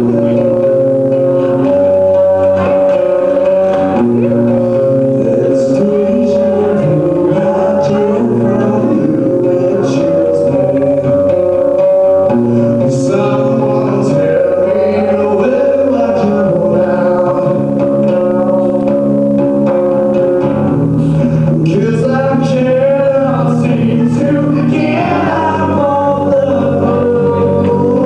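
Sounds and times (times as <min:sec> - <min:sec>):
man singing: 0:00.0 - 0:20.1, 0:21.0 - 0:28.0
acoustic guitar: 0:00.0 - 0:28.0.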